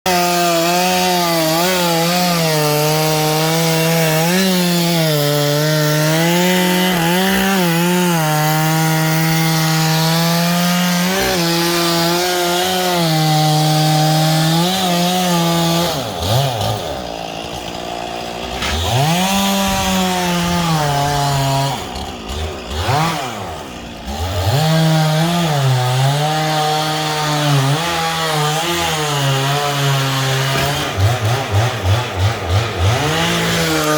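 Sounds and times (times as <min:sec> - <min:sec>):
chainsaw cutting and revving: 0:00.0 - 0:33.9.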